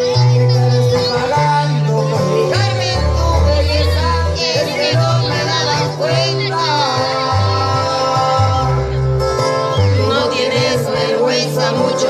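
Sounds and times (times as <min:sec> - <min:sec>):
low bass line: 0:00.0 - 0:12.0
person singing: 0:00.0 - 0:12.0.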